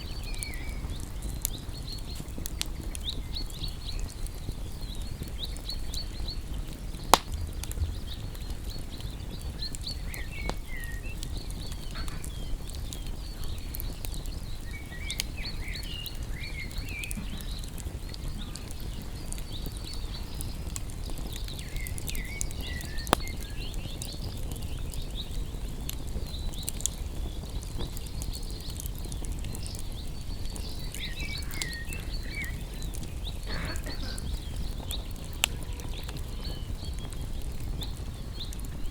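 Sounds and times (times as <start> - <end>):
campfire crackling: 0.0 - 38.9
sharp pops from fire: 0.0 - 38.9.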